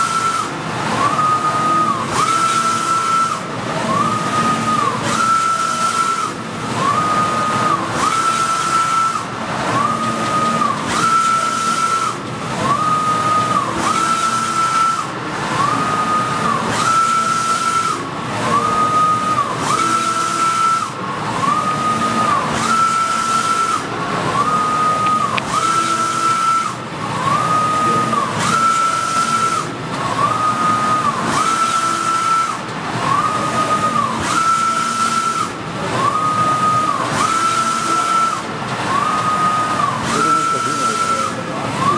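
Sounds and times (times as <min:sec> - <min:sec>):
printer carriage whine: 0:00.0 - 0:41.9.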